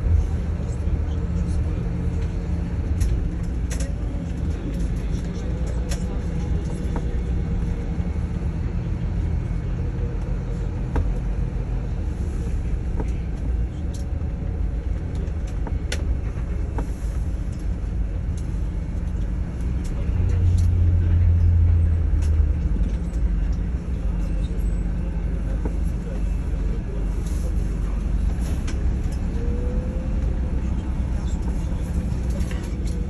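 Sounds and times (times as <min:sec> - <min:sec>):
bus engine rumble: 0:00.0 - 0:33.0
road noise: 0:00.0 - 0:33.0.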